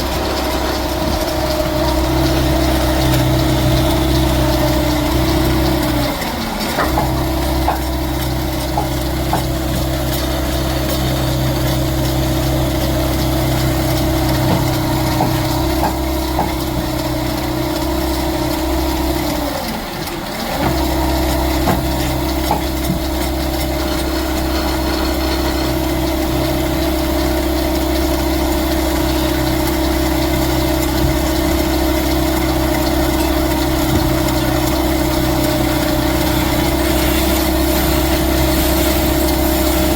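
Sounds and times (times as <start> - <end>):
woodworking machine motor humming: 0.0 - 39.9.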